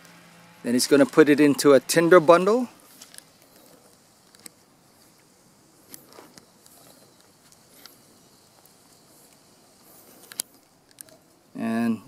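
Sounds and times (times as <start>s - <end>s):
dry leaf crinkling: 0.8s - 11.8s.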